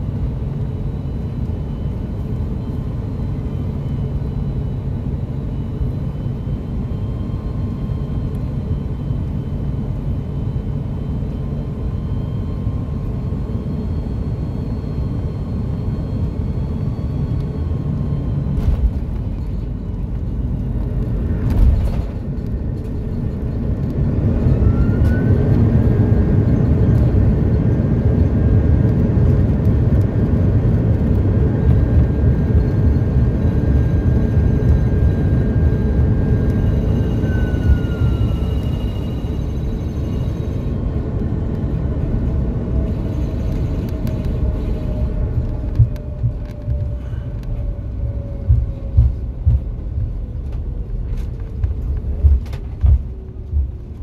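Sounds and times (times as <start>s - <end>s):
aircraft cabin engine hum: 0.0s - 54.0s
engine reverse thrust whine: 0.0s - 54.0s.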